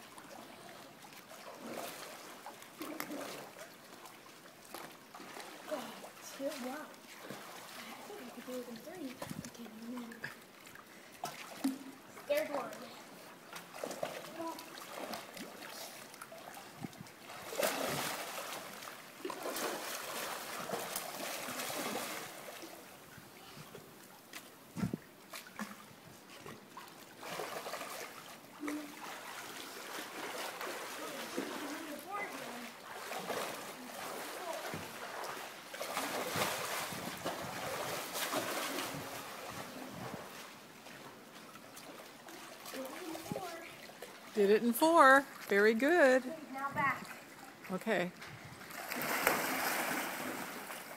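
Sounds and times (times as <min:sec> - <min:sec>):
pool water splashing: 0:00.0 - 0:50.9.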